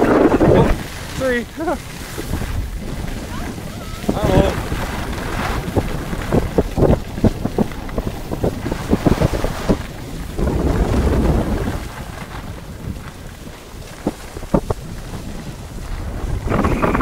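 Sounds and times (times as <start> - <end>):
skis scraping over packed snow: 0.0 - 17.0
wind rushing over microphone: 0.0 - 17.0.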